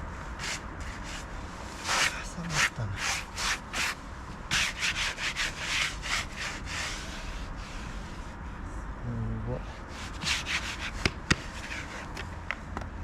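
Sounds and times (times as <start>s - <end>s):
scraping strokes on wood: 0.4s - 8.4s, 9.8s - 12.3s.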